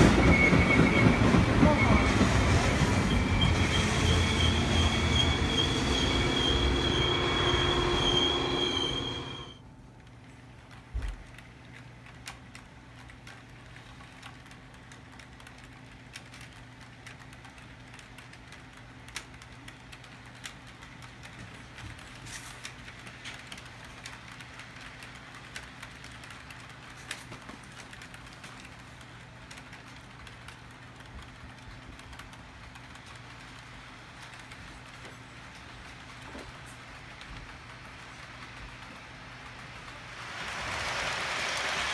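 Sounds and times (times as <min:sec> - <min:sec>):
model train electric hum: 0:00.0 - 0:41.9
wheels rattling and clicking on track: 0:00.0 - 0:41.9.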